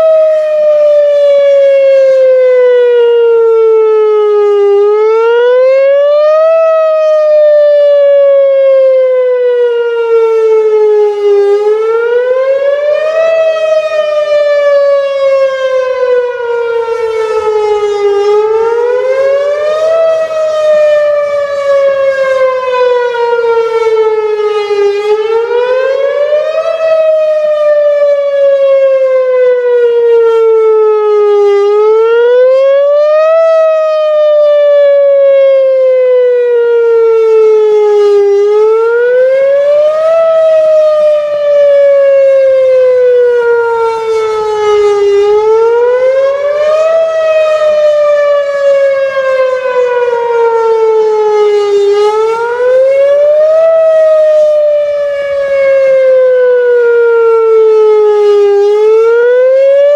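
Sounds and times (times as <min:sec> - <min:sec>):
warning siren wailing: 0:00.0 - 0:59.9.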